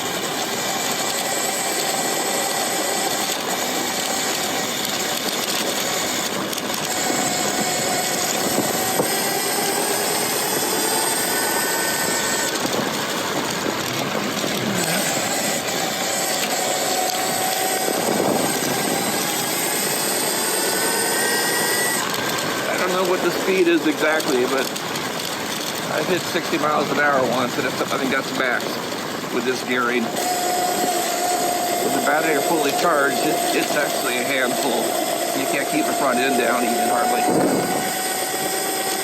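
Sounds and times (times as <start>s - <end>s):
electric motor whine: 0.0s - 39.0s.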